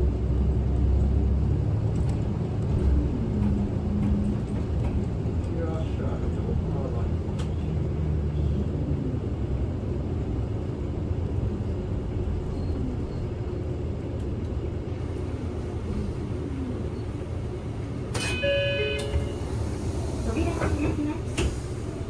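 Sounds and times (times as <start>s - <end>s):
bus engine hum: 0.0s - 22.0s
road noise: 0.0s - 22.0s.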